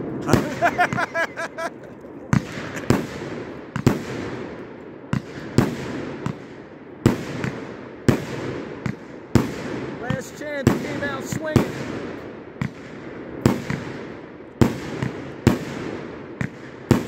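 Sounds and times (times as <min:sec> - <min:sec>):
firework bangs: 0:00.0 - 0:17.0.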